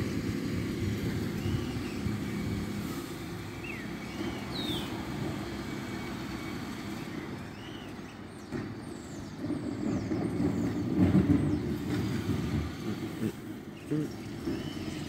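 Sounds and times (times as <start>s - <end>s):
lorry engine rumbling: 0.0s - 15.0s.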